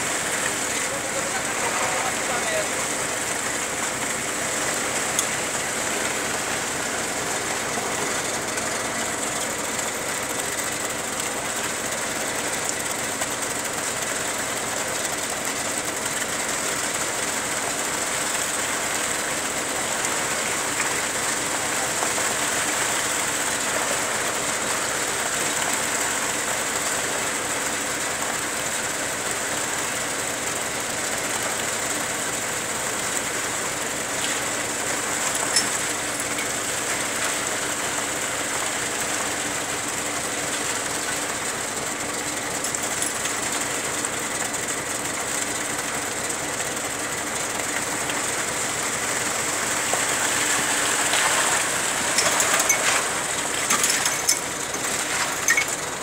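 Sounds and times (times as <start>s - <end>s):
small engine chugging: 0.0s - 56.0s.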